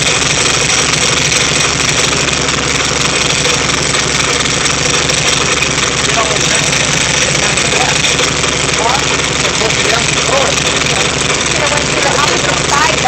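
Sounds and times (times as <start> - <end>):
air-cooled engine idling: 0.0 - 13.0.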